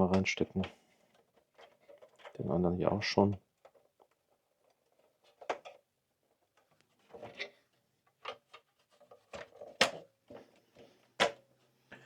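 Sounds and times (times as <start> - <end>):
plastic parts clicking and knocking: 0.0 - 11.5.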